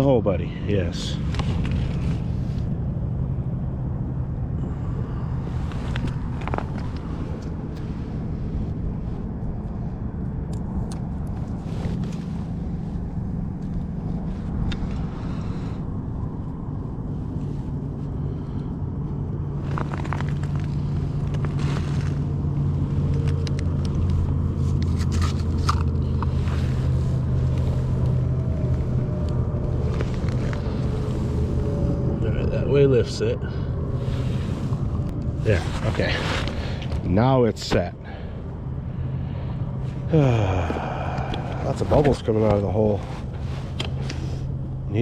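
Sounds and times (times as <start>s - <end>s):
low engine-like drone: 0.0s - 45.0s.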